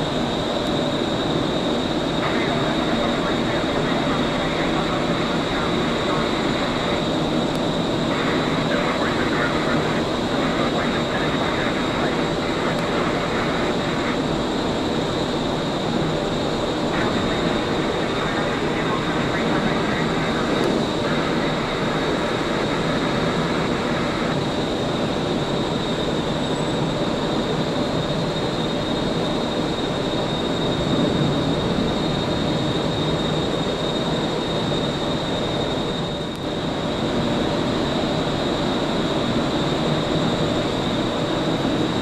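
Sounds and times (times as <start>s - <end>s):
high steady whine: 0.0s - 42.0s
jet engines rumbling: 0.0s - 42.0s.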